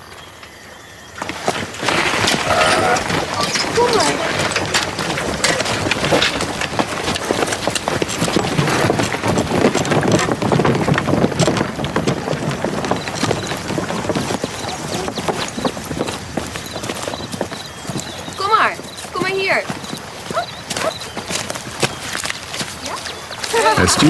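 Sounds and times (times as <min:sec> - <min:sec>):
footsteps on wooden footbridge: 0:01.2 - 0:24.0.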